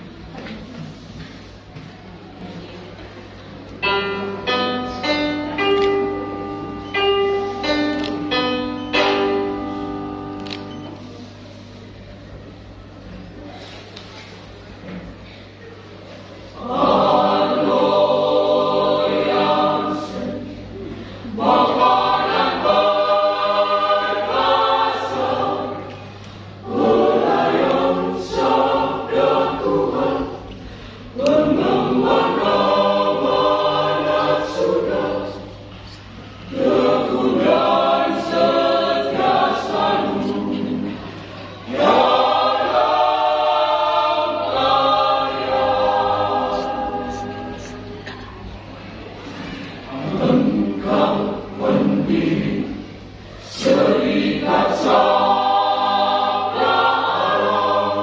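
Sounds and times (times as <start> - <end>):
church choir singing: 3.9 - 11.2, 16.4 - 48.0, 49.1 - 58.0.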